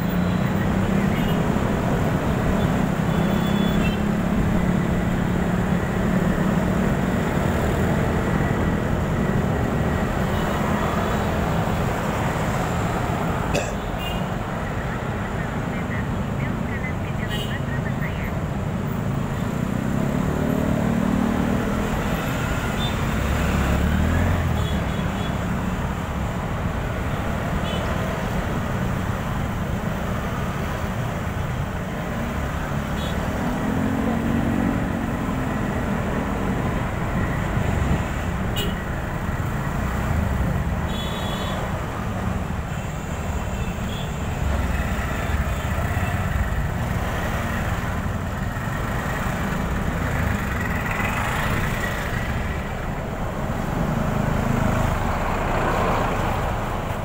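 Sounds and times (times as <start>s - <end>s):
road noise: 0.0s - 57.0s
vehicles passing: 0.0s - 57.0s.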